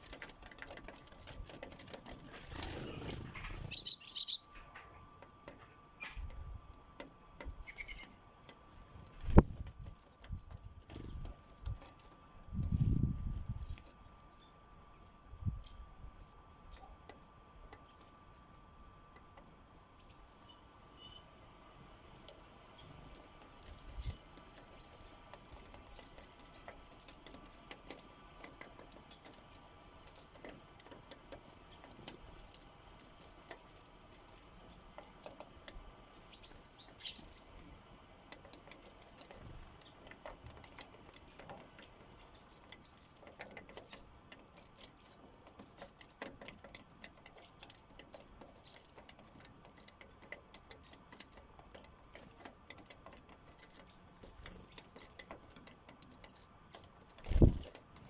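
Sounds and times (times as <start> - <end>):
birds pecking seed taps: 0.0 - 15.2, 16.6 - 20.4, 21.7 - 58.0.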